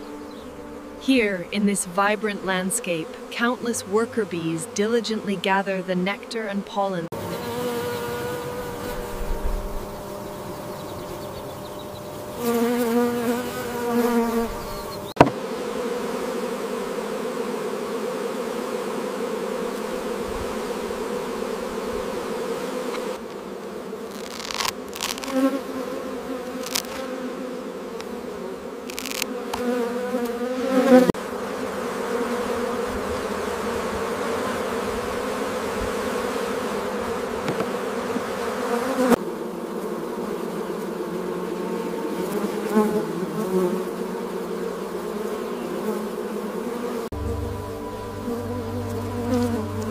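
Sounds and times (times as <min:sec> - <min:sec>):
bees humming: 0:00.0 - 0:49.9
single bee buzzing close: 0:00.0 - 0:49.9.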